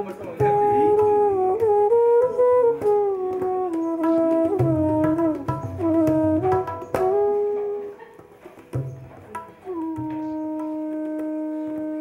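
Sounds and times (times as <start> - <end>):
low musical accompaniment: 0.0 - 12.0
wind instrument slow melody: 0.0 - 12.0.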